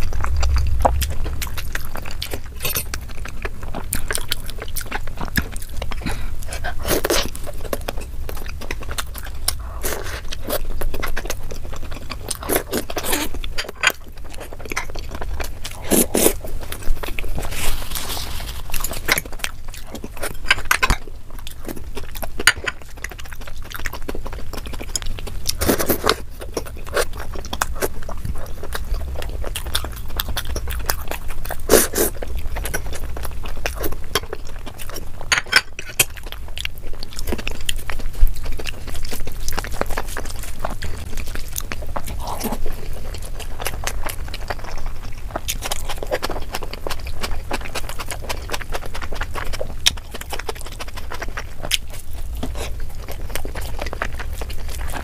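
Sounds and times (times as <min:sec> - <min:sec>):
chewing and mouth smacking: 0:00.0 - 0:55.0.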